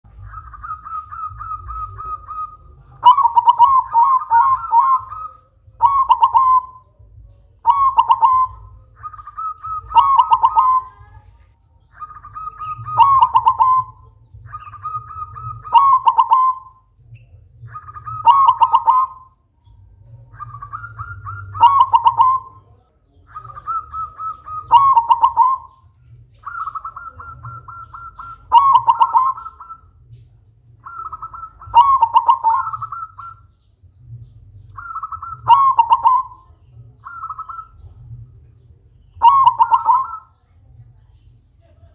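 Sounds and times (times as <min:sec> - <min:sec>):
dove cooing: 0:00.1 - 0:19.4, 0:20.0 - 0:30.2, 0:30.8 - 0:40.4.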